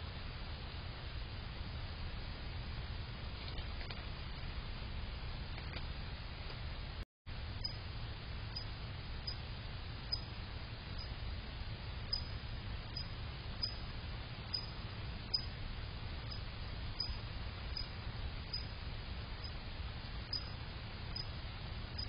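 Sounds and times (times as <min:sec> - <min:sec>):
microphone hum and hiss: 0:00.0 - 0:22.0.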